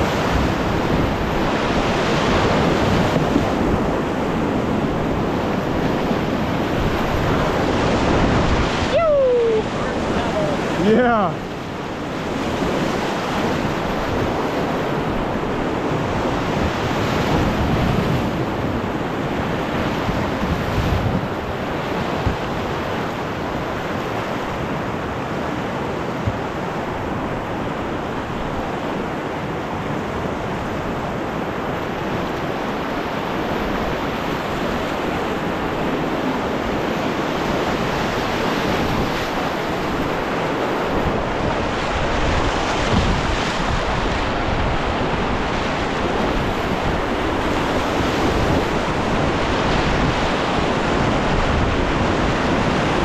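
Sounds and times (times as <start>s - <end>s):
whitewater rushing through rapids: 0.0s - 53.0s
wind buffeting microphone: 0.0s - 53.0s.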